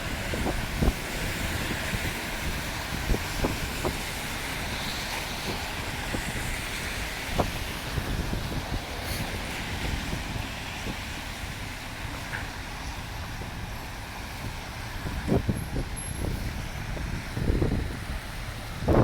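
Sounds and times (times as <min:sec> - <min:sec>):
street noise: 0:00.0 - 0:19.0
wind buffeting the microphone: 0:00.0 - 0:19.0.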